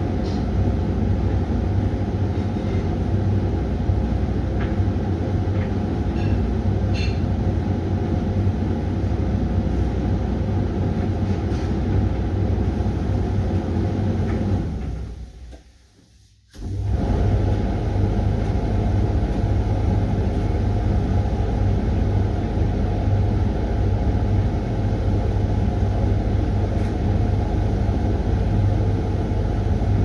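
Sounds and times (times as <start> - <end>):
washing machine motor rumbling: 0.0 - 15.5, 16.6 - 30.0.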